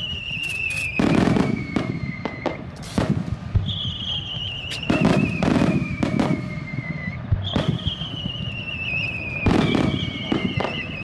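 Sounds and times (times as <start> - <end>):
fireworks bangs: 0.0 - 11.0
fireworks whistles gliding down: 0.0 - 11.0.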